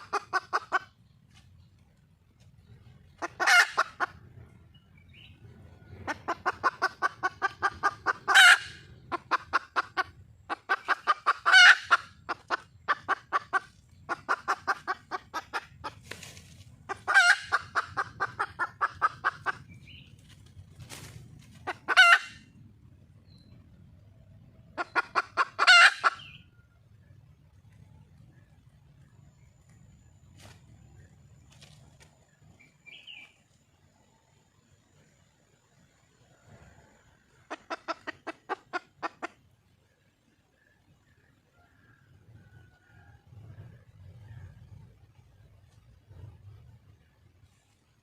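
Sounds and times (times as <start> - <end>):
hen clucking and cackling: 0.0 - 30.0, 30.6 - 47.9
faint low rumble: 0.0 - 48.0.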